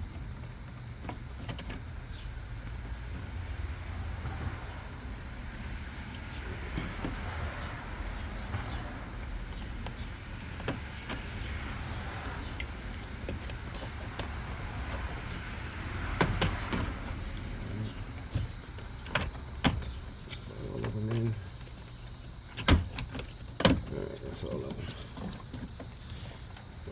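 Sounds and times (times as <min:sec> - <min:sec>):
low steady rumble: 0:00.0 - 0:26.9.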